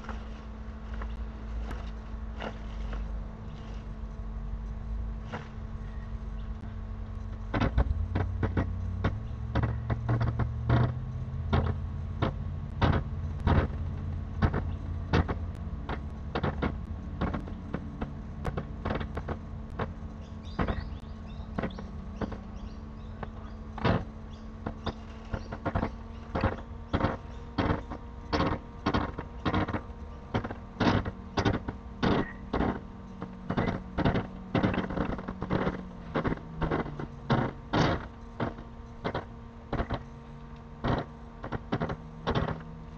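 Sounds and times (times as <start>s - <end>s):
low rumble: 0.0s - 42.9s
steady electrical hum: 0.0s - 42.9s
sharp knocks and clicks: 6.6s - 42.8s.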